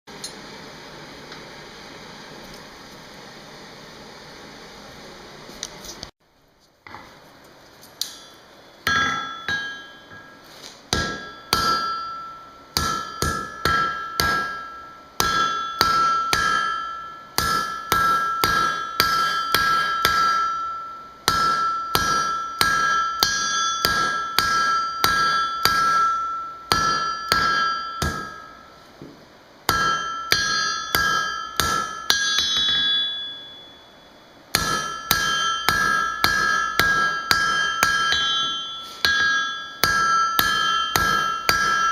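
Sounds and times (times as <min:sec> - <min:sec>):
hammer striking steel on anvil: 0:08.0 - 0:41.9.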